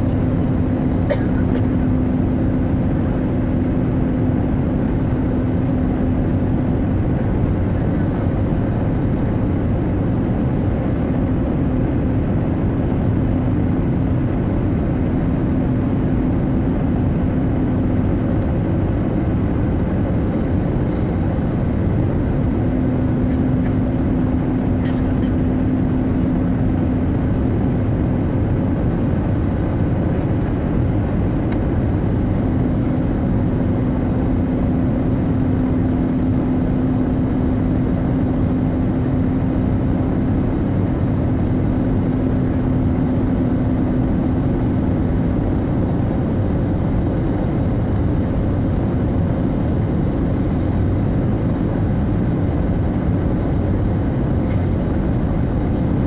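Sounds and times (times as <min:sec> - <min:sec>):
airplane cabin engine noise: 0:00.0 - 0:56.0
steady hum: 0:00.0 - 0:56.0.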